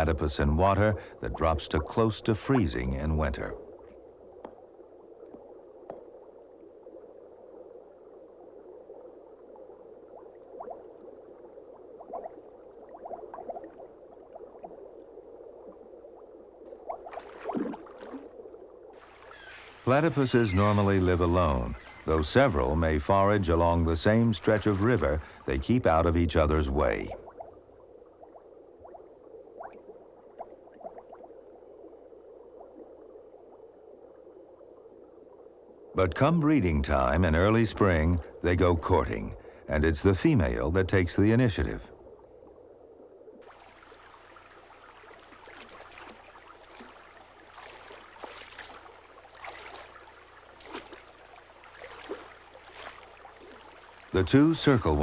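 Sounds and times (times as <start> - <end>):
stream bubbling and gurgling: 0.0 - 55.0.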